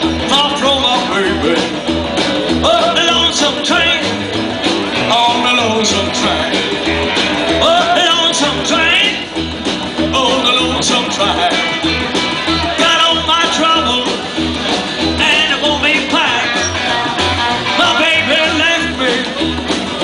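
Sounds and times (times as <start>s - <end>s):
rockabilly band playing: 0.0s - 20.0s
upright bass walking beat: 0.0s - 20.0s.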